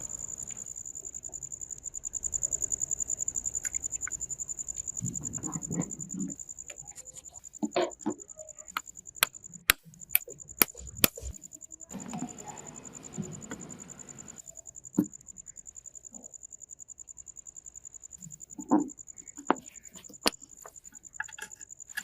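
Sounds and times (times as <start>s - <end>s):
insect chirping: 0.0s - 22.0s.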